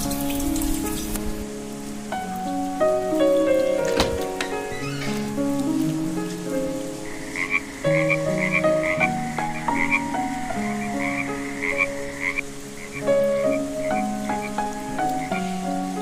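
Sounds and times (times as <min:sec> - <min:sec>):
soft music with held notes: 0:00.0 - 0:16.0
frogs croaking: 0:01.6 - 0:16.0.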